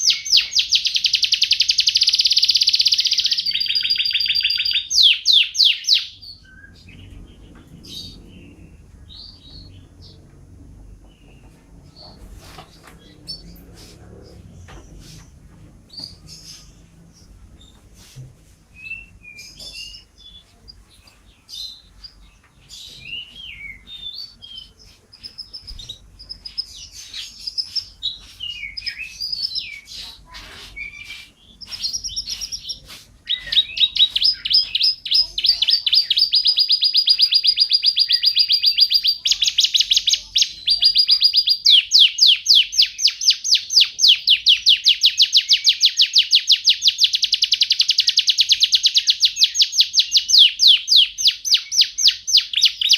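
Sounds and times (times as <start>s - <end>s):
canary singing: 0.0s - 17.9s, 18.7s - 52.9s.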